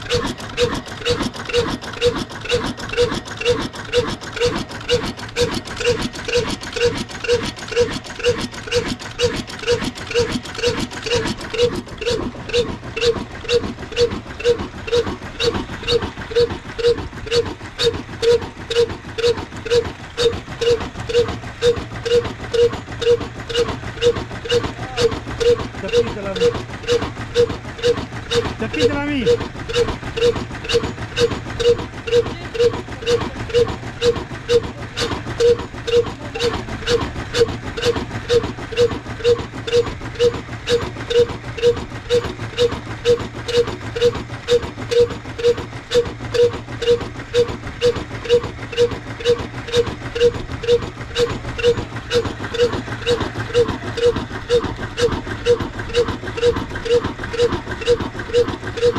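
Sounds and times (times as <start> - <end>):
diesel engine thudding: 0.0 - 58.9
engine sharp clicks: 0.0 - 58.9.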